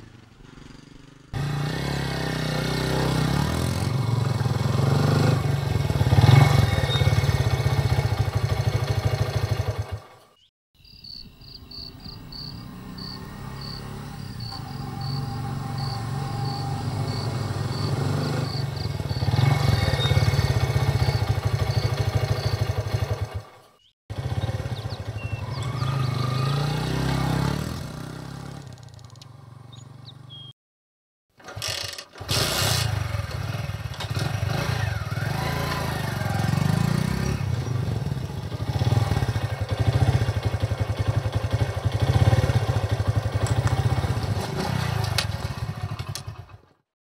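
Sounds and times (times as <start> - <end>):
motorcycle engine revving: 0.0 - 10.3, 11.8 - 30.5, 31.4 - 46.8.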